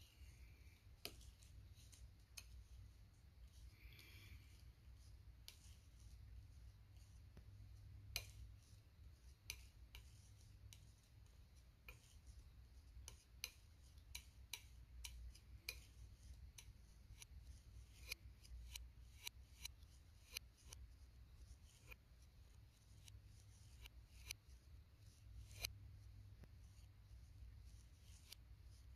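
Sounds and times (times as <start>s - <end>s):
palette knife tapping and scraping: 0.0s - 28.9s.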